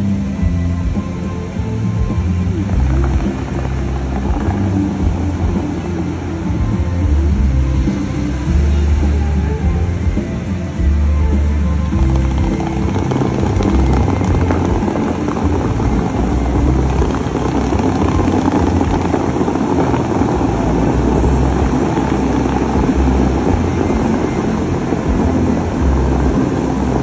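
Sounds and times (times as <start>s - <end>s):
low uneven rumble: 0.0s - 27.0s
water jets rushing: 0.0s - 27.0s.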